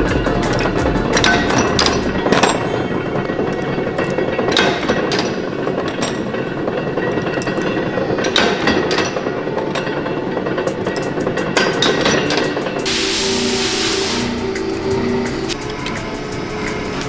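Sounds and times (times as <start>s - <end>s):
factory machinery running: 0.0s - 17.0s
power press metallic clunk: 0.4s - 15.6s.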